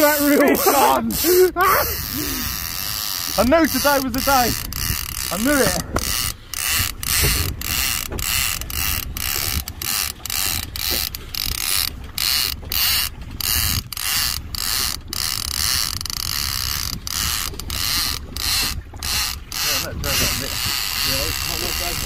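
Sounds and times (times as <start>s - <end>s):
fishing reel ratchet pulsing: 0.0s - 22.0s.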